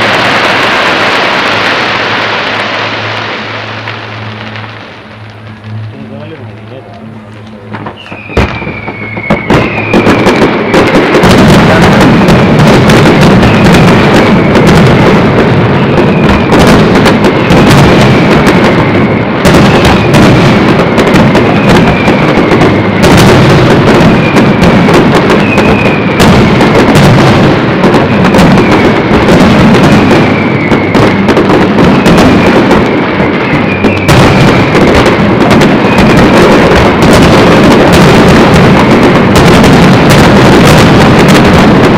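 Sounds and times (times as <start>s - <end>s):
falling firework whistle: 0.0s - 41.9s
fireworks bursting and crackling: 0.0s - 41.9s.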